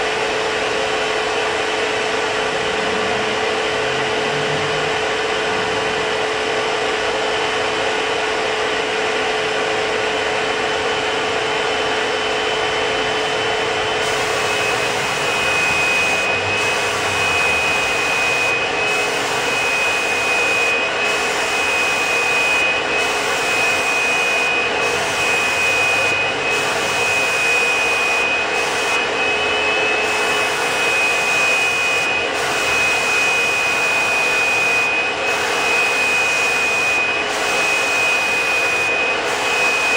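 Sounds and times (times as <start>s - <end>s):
turbine blower whine: 0.0s - 39.9s.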